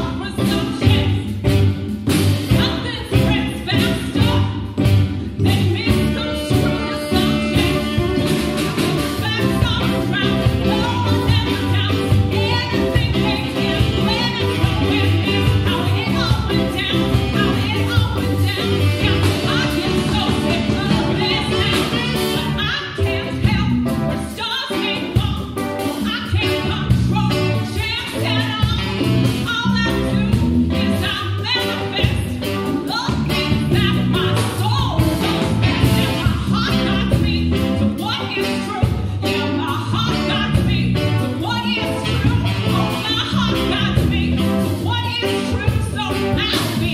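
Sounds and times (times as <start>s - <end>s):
bass guitar: 0.0s - 46.9s
drums playing a steady beat: 0.0s - 46.9s
electric guitar: 0.0s - 46.9s
woman singing: 0.0s - 46.9s.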